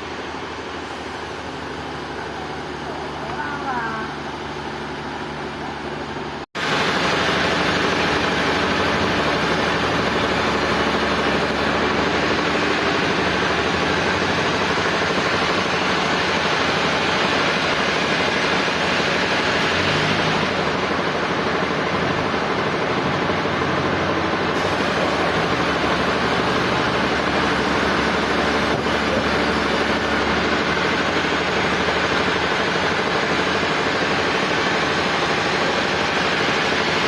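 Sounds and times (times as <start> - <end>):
sawmill machinery running: 0.0 - 37.0.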